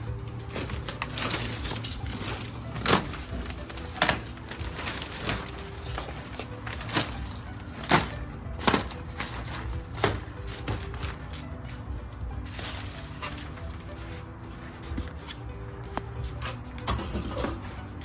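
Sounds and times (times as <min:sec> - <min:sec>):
packing material knocks and crackles: 0:00.0 - 0:18.0
packing material rustling: 0:00.0 - 0:18.0.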